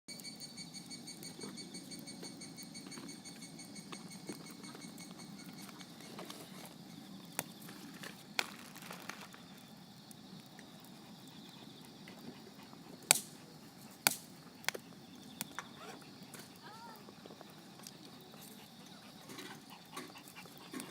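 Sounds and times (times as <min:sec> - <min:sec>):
campfire crackling and popping: 0:00.7 - 0:20.9.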